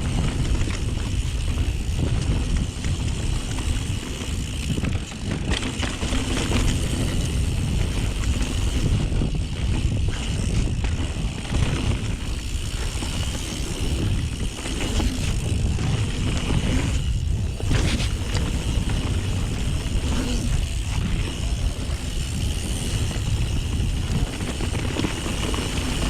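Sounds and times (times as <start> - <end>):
bike knocks and rattles: 0.0 - 26.0
tyres rumbling on dirt trail: 0.0 - 26.0.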